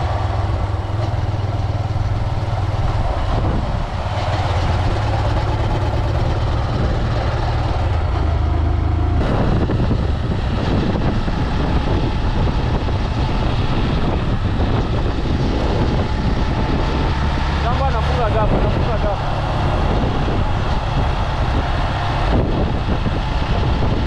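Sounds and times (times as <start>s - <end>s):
rough rushing noise: 0.0s - 24.0s
vehicle engine humming: 0.0s - 24.0s.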